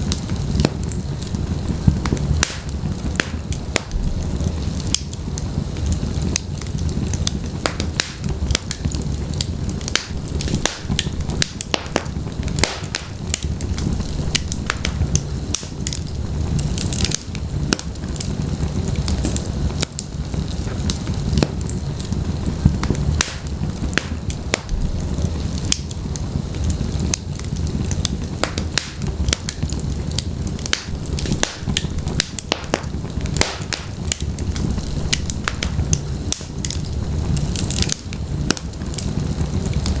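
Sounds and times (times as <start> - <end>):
flames rumbling: 0.0 - 40.0
wood fire crackles and pops: 0.0 - 40.0.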